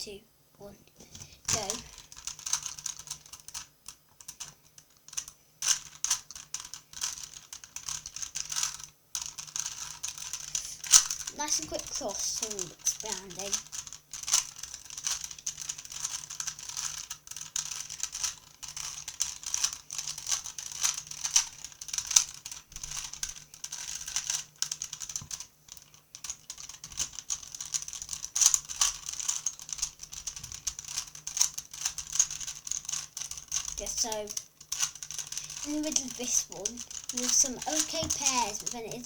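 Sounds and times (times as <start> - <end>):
puzzle cube clicking: 5.1 - 39.0.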